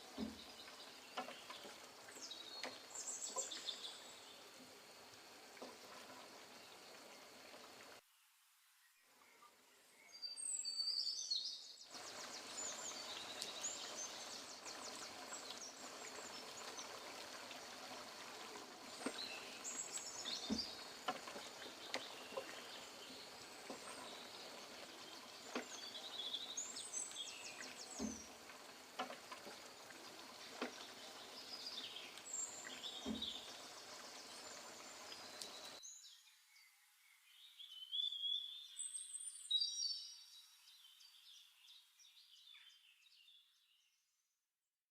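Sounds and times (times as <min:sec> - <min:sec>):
faint background hiss: 0:00.0 - 0:43.2.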